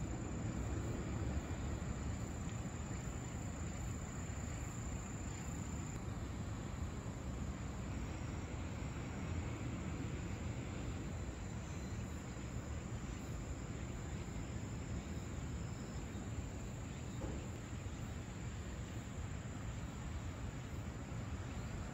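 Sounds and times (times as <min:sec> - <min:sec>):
insects trilling: 0:00.0 - 0:06.0, 0:06.6 - 0:21.9
low outdoor rumble: 0:00.0 - 0:19.0.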